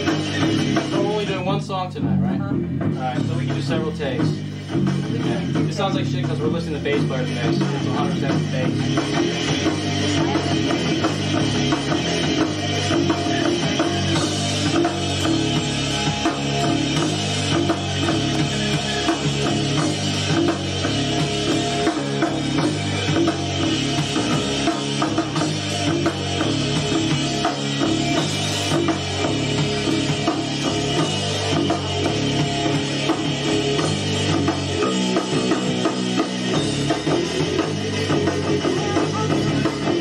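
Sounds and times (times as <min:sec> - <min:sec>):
drum kit steady beat: 0:00.0 - 0:40.0
electric bass: 0:00.0 - 0:40.0
electric guitar: 0:04.4 - 0:40.0.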